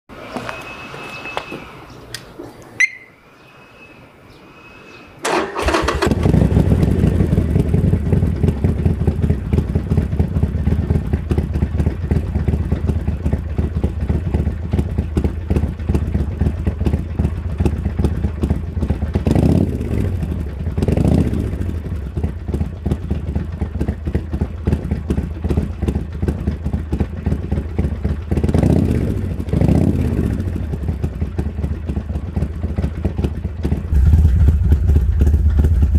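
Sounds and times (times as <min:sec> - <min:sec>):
motorcycle engine idling and revving: 0:05.2 - 0:35.9.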